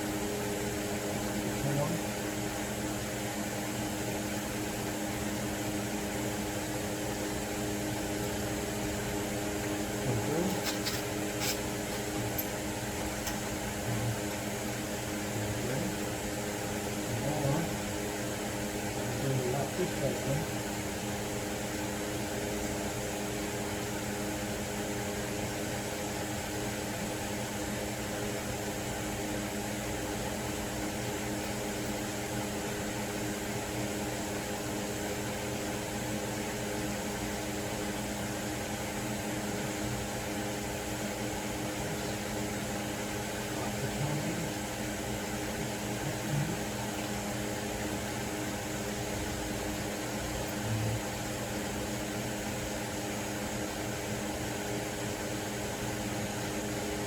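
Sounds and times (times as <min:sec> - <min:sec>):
motor or fan humming: 0:00.0 - 0:57.0.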